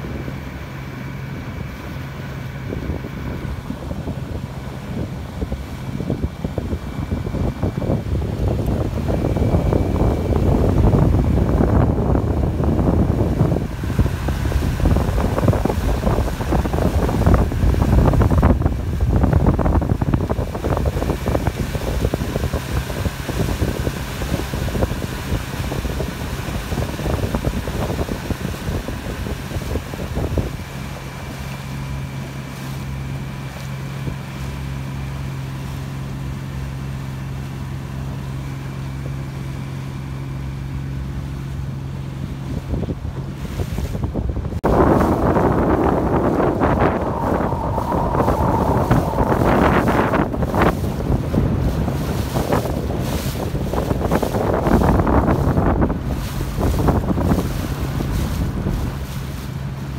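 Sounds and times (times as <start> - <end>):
motorboat engine humming: 0.0 - 59.9
wind gusting across microphone: 0.0 - 59.9.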